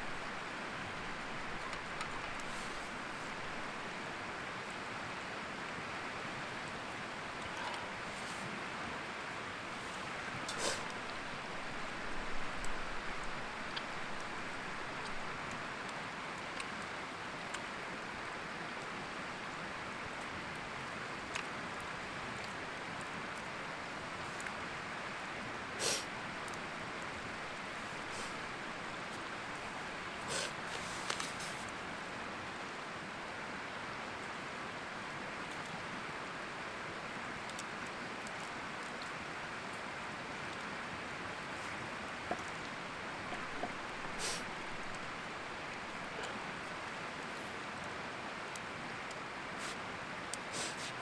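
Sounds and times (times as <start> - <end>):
stream water flowing: 0.0 - 51.0.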